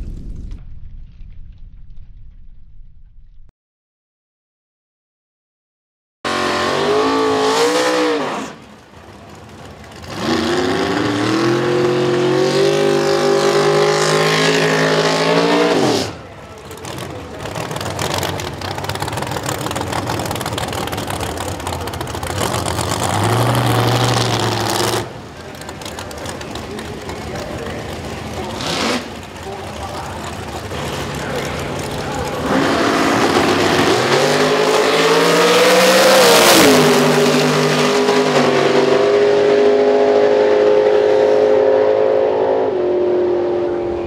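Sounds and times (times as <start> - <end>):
race car engine at full throttle: 6.3 - 44.0
rough noisy engine: 6.3 - 44.0.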